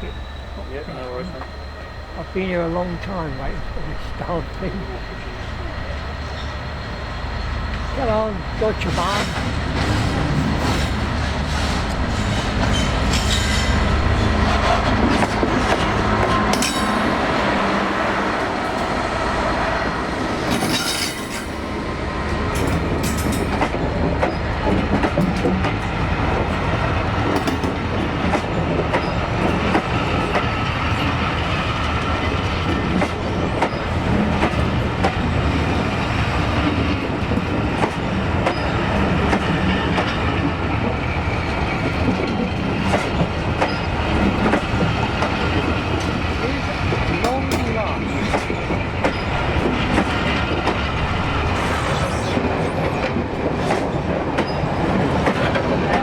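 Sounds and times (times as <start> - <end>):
diesel locomotive engine: 0.0 - 56.0
train wheels clattering: 7.6 - 17.6, 20.2 - 56.0.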